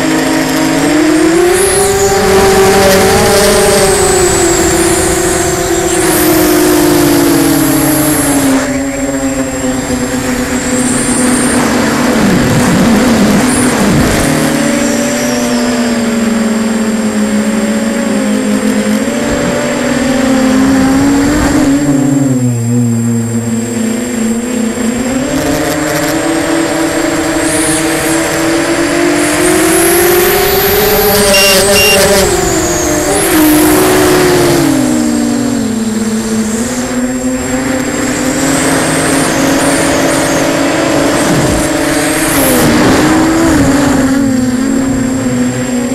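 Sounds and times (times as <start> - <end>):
quadcopter motors buzzing whine: 0.0 - 45.9.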